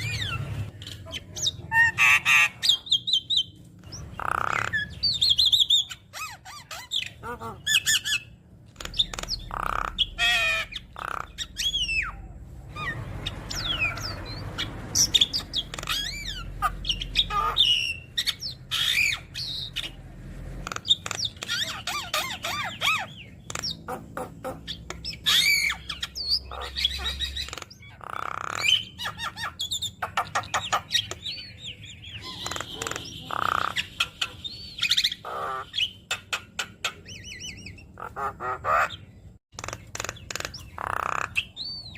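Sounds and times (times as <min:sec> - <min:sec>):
bird squawks: 0:00.0 - 0:20.0, 0:20.6 - 0:41.9.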